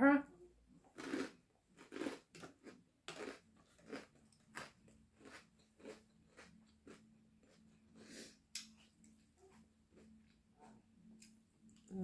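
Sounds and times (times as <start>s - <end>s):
chewing crisp lettuce: 0.9s - 10.8s.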